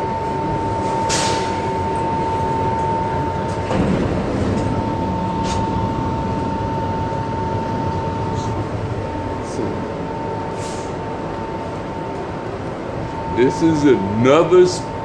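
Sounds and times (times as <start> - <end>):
continuous high whine: 0.0 - 15.0
subway car rumble: 0.0 - 15.0.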